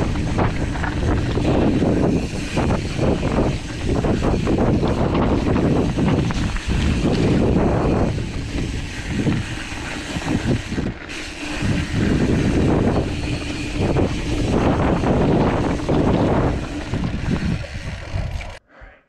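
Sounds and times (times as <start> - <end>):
bike tyres on rough dirt: 0.0 - 18.6
wind rushing over microphone: 0.0 - 18.6.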